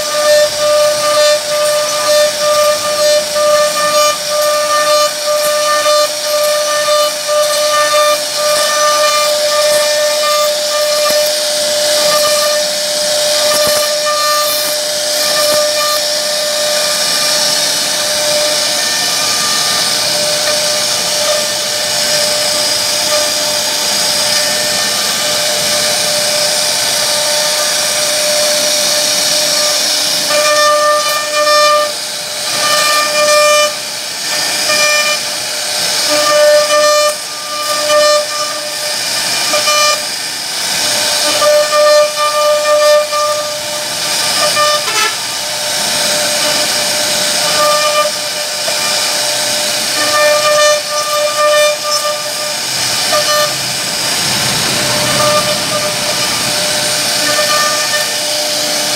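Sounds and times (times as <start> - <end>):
fixed-pitch humming tone: 0.0 - 33.8, 41.2 - 58.9
router spindle whining: 0.0 - 58.9.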